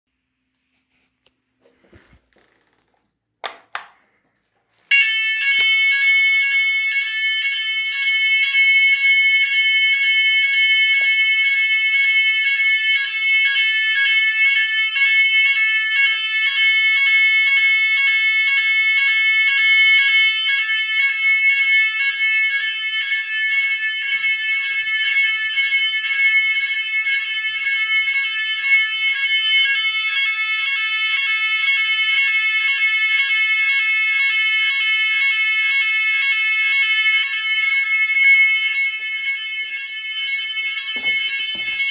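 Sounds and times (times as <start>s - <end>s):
fire alarm pulsing tone: 4.9s - 41.9s.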